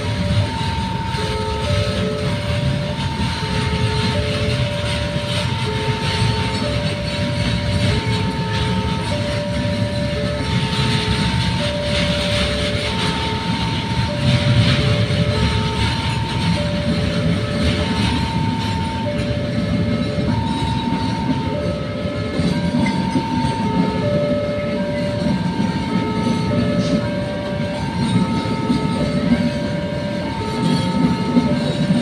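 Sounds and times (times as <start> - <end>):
freight train wheels rumbling on rails: 0.0 - 32.0
level crossing alarm tones: 0.0 - 32.0.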